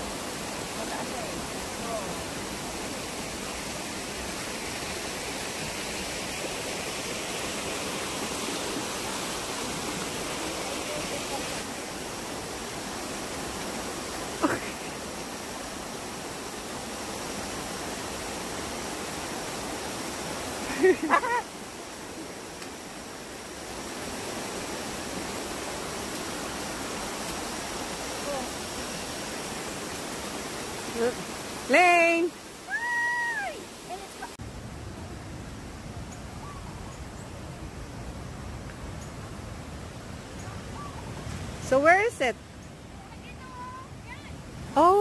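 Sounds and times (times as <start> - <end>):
rushing water: 0.0 - 45.0.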